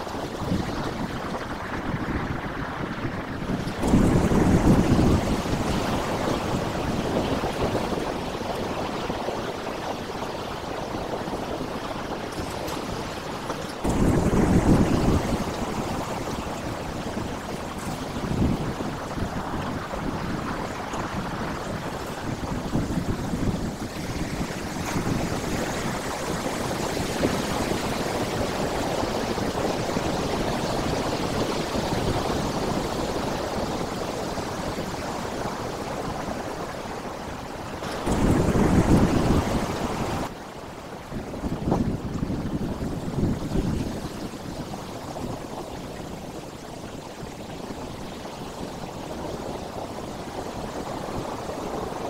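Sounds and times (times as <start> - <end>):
sea surf washing over rocks: 0.0 - 52.0.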